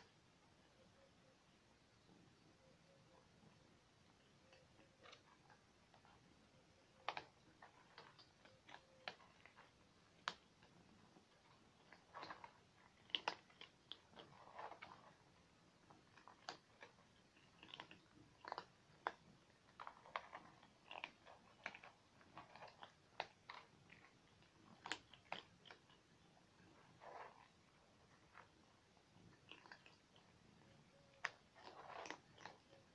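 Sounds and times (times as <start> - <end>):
cats chewing and crunching food: 2.1 - 32.9.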